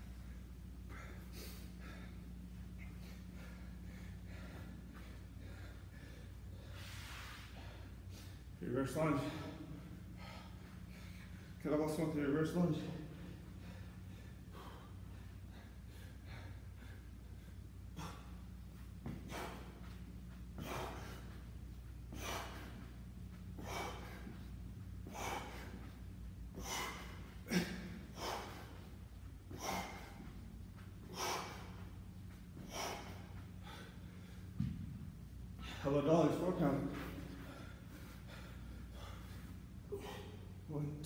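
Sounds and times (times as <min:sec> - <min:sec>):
man breathing hard with exertion: 0:00.0 - 0:40.7.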